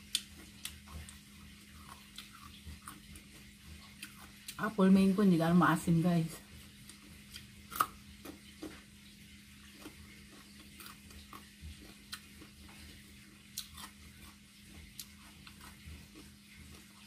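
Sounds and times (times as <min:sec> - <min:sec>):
crunchy chewing: 0:00.0 - 0:04.6, 0:06.5 - 0:17.0
faint low hum: 0:00.0 - 0:17.0.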